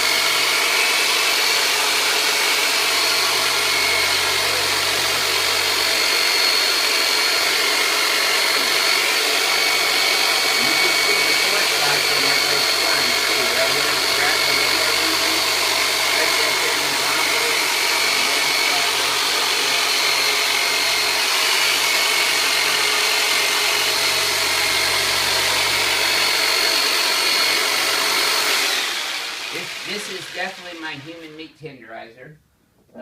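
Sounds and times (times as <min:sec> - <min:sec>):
electric massager buzzing: 0:00.0 - 0:31.5.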